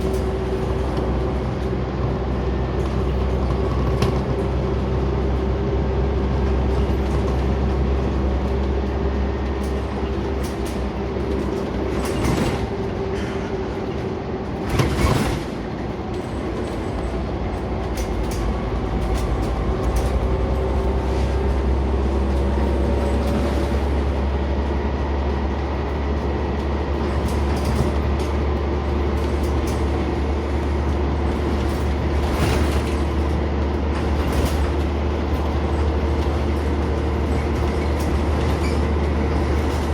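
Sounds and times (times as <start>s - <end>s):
bus engine drone: 0.0s - 39.9s
rattles and knocks from bus body: 0.0s - 39.9s.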